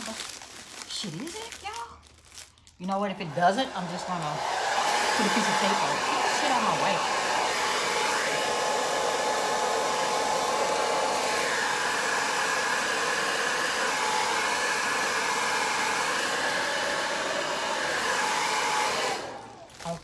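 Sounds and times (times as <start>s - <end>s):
hair dryer blowing: 2.8s - 20.0s.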